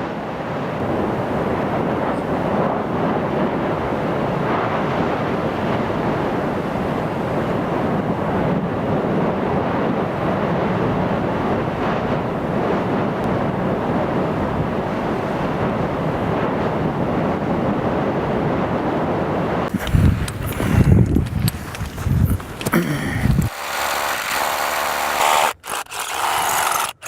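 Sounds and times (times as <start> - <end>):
lava lake surf-like rushing: 0.0 - 23.6
wind on microphone: 0.0 - 24.7.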